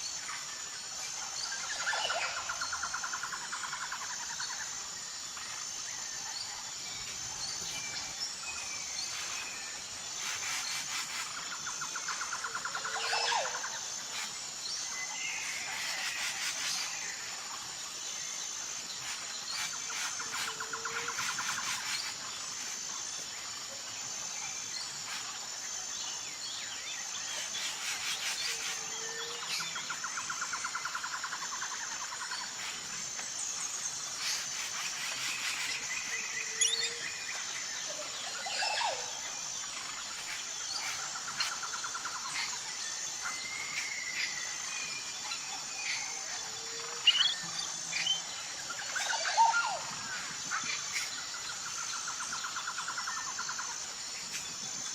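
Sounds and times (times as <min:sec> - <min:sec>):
high insect buzz: 0:00.0 - 0:54.9.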